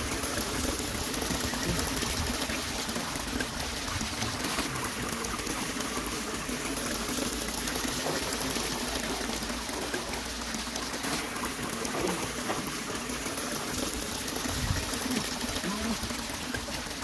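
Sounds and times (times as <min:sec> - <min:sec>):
muddy water sloshing: 0:00.0 - 0:17.0.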